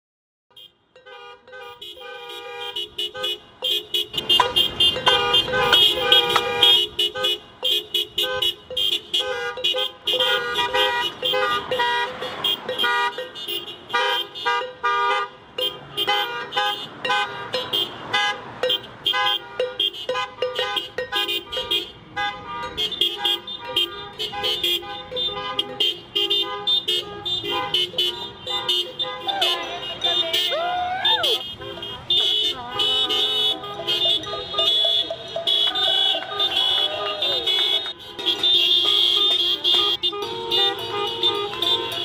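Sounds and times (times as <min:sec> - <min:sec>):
car horns honking: 0:00.5 - 0:42.0.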